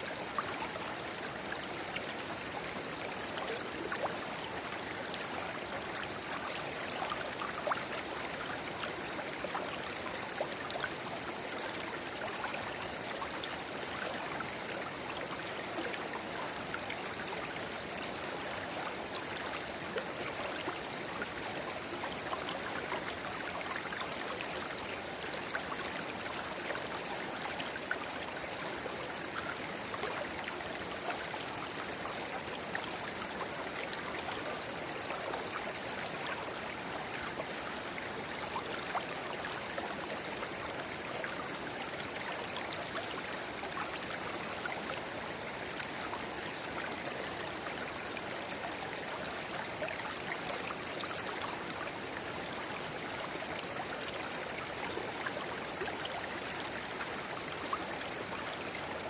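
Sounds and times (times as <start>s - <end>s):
shallow river babbling: 0.1s - 59.0s.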